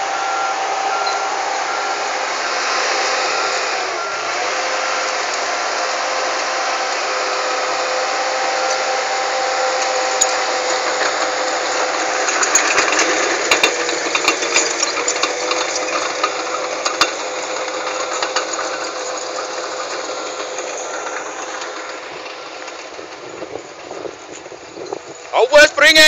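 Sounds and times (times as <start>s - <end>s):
bulldozer diesel engine running: 0.0s - 26.0s
steel tracks clanking: 0.0s - 26.0s.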